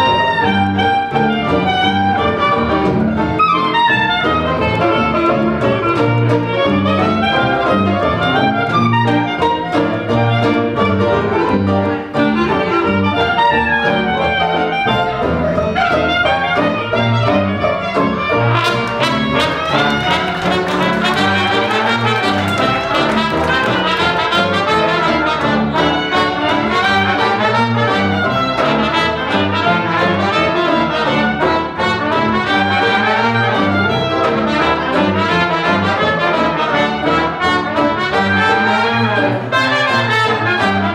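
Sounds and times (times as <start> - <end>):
brass instruments: 0.0 - 40.9
jazz band playing: 0.0 - 40.9.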